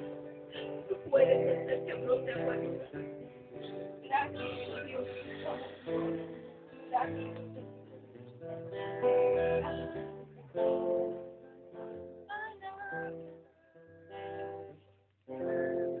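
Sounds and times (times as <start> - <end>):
acoustic guitar strumming chords: 0.0 - 14.8.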